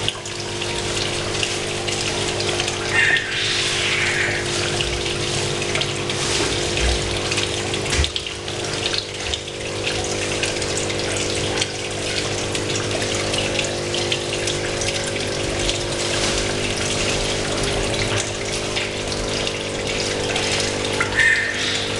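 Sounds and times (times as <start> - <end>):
aquarium water and bubbles rushing: 0.0 - 21.9
pump hum: 0.0 - 21.9.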